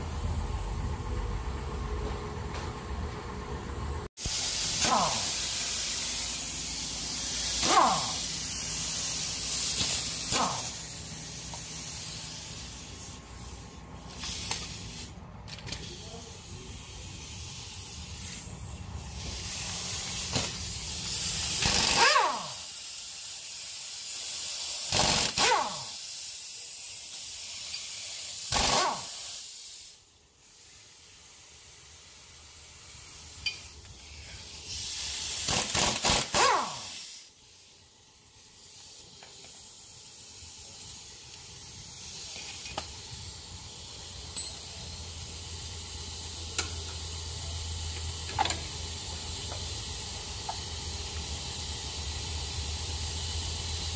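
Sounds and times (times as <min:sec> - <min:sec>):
air hissing: 0:04.1 - 0:53.9
pneumatic impact wrench hammering: 0:04.2 - 0:16.1, 0:17.2 - 0:31.4, 0:32.0 - 0:53.9.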